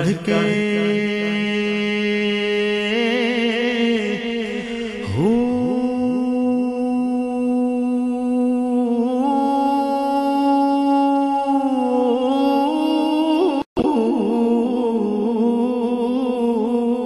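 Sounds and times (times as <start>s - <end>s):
man singing a held note: 0.0s - 17.0s.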